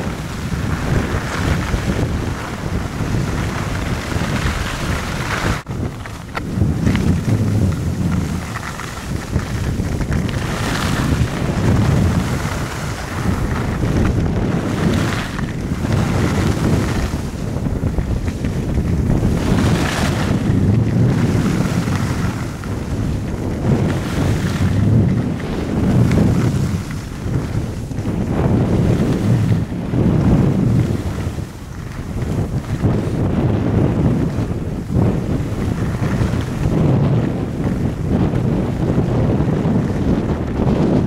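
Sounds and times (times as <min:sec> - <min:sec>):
skis scraping across snow: 0:00.0 - 0:41.0
wind buffeting microphone: 0:00.0 - 0:41.0.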